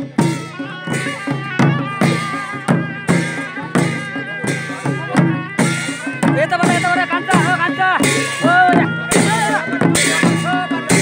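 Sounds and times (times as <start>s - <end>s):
drum strokes: 0.0s - 11.0s
shawm melody: 0.0s - 11.0s.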